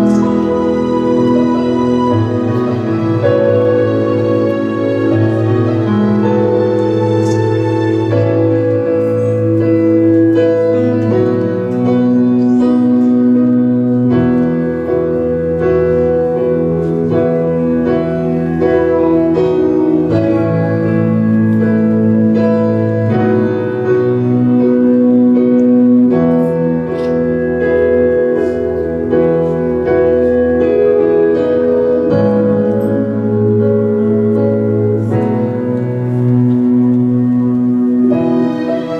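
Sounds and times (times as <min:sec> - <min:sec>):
slow keyboard chords: 0:00.0 - 0:38.9.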